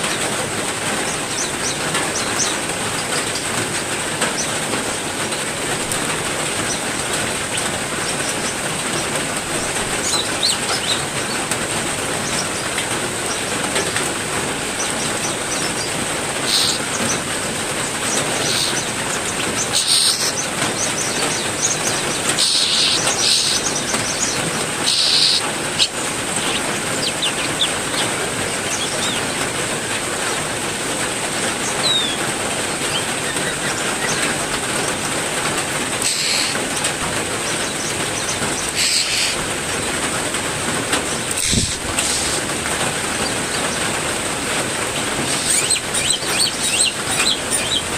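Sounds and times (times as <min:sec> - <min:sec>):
heavy rain: 0:00.0 - 0:47.9
songbirds calling: 0:00.0 - 0:47.9.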